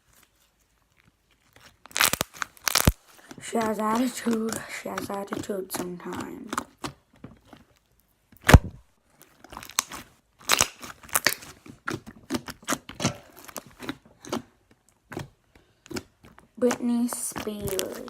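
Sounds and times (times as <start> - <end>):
slime popping and crackling: 0.8 - 18.0.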